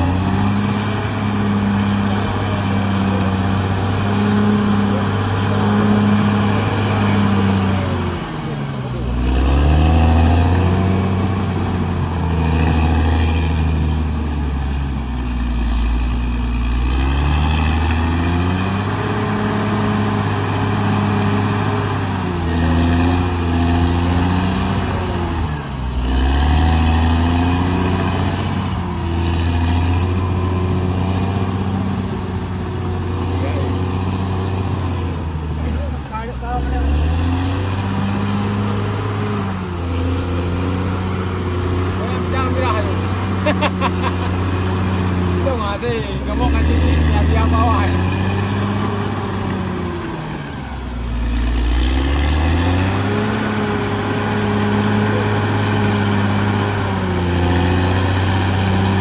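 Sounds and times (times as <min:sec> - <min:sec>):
bulldozer diesel engine lugging: 0:00.0 - 0:59.0.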